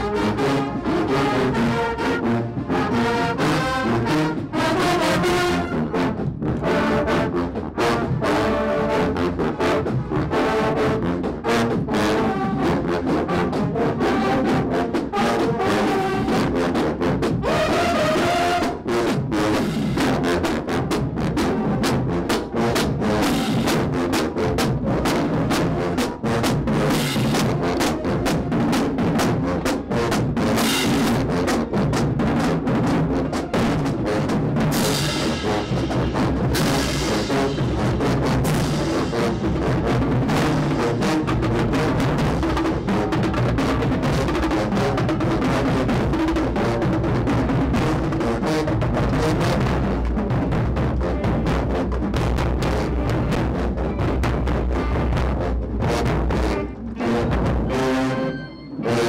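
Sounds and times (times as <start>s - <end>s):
marching band playing: 0.0s - 59.0s
bass drums beating: 2.4s - 58.0s.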